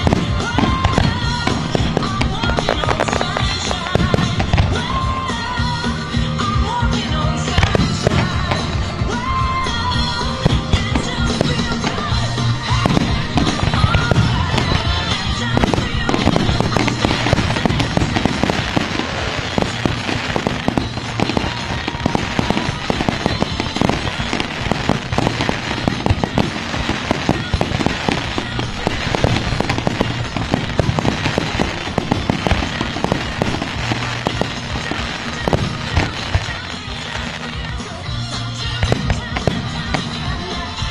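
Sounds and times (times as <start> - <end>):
fireworks crackling: 0.0 - 40.9
music playing: 0.0 - 40.9.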